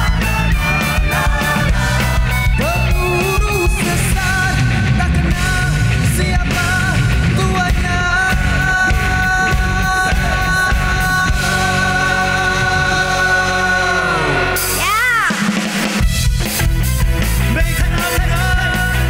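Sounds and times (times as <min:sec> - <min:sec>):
vocal group singing: 0:00.0 - 0:15.0, 0:17.5 - 0:19.0
live pop-rock band: 0:00.0 - 0:19.0.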